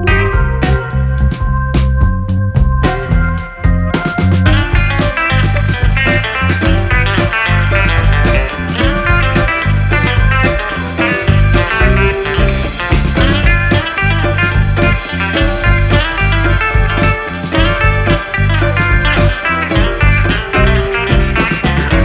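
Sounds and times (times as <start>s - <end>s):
blues-rock music with guitar: 0.0s - 22.0s.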